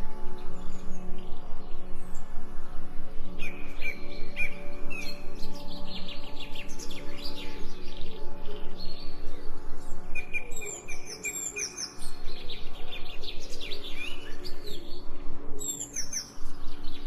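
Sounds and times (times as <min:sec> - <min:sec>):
low humming drone: 0:00.0 - 0:17.0.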